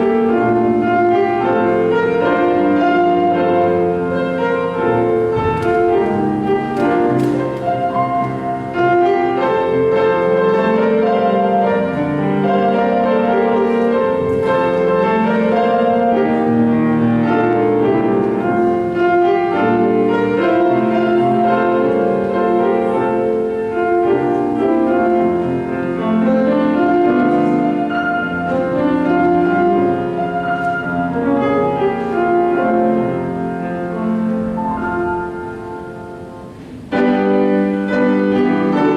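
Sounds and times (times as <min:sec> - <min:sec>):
piano piece: 0:00.0 - 0:38.9.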